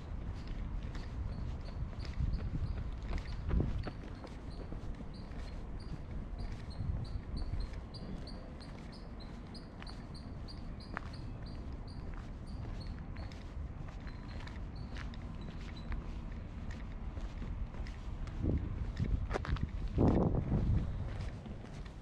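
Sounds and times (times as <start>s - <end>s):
footsteps on a path: 0.0s - 22.0s.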